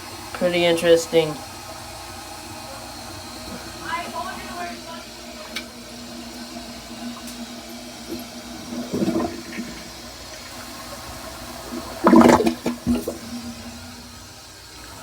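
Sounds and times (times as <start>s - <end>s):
toilet gurgling surges: 0.0s - 15.0s
toilet water running: 0.0s - 15.0s.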